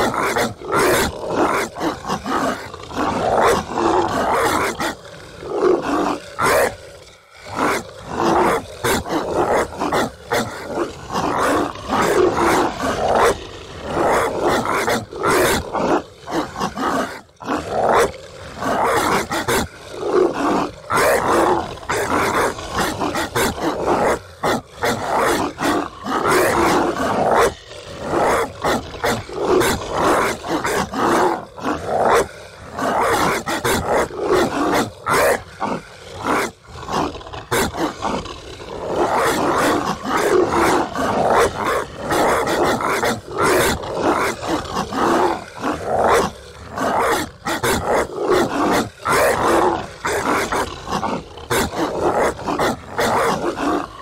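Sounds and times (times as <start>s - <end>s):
monstrous dog barking and snarling: 0.0s - 54.0s.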